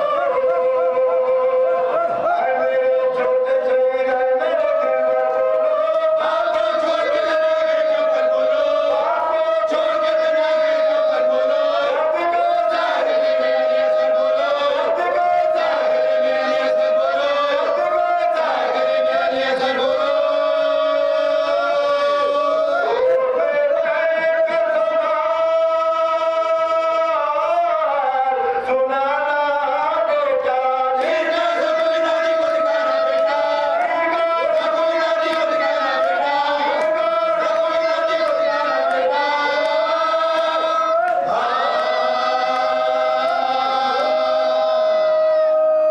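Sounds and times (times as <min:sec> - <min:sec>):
group of men singing: 0:00.0 - 0:45.9
man reciting into microphone: 0:00.0 - 0:45.9
men chanting together: 0:00.0 - 0:45.9.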